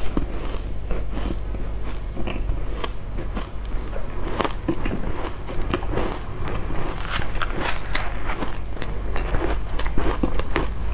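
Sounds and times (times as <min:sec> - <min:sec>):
ice crunching and chewing: 0:00.0 - 0:10.9.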